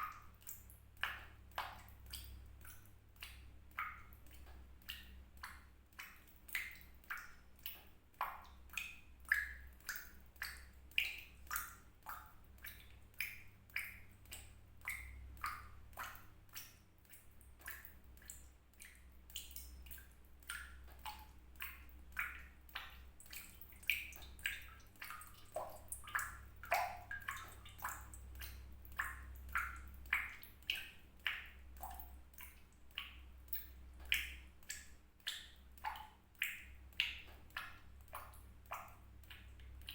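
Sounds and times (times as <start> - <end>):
water drops plinking into water: 0.0 - 39.9.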